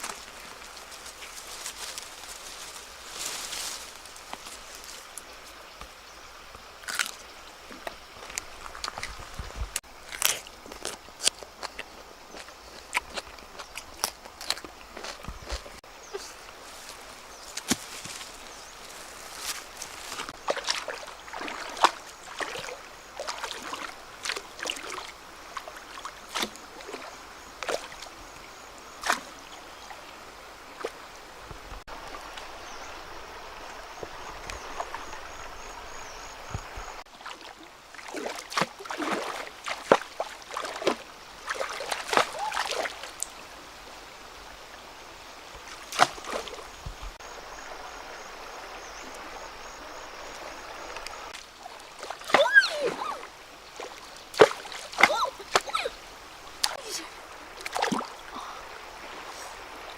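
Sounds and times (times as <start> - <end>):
river water running: 0.0 - 59.9
water splashing and sloshing: 0.0 - 59.9.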